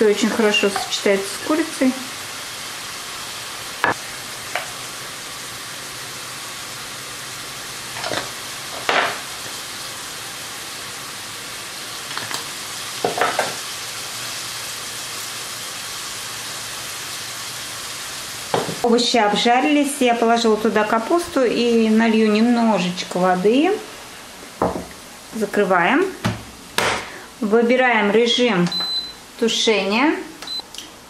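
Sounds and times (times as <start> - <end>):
chicken sizzling in a pan: 0.0 - 29.4.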